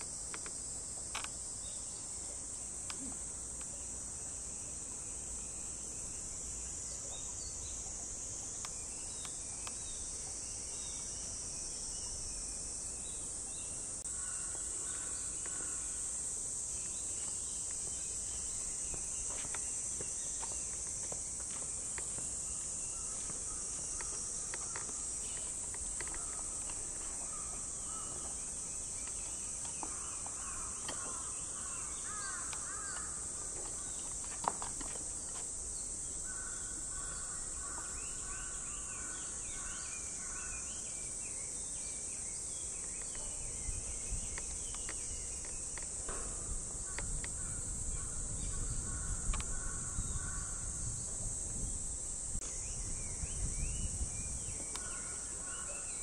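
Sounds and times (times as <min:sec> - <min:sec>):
cicadas chorus: 0:00.0 - 0:56.0.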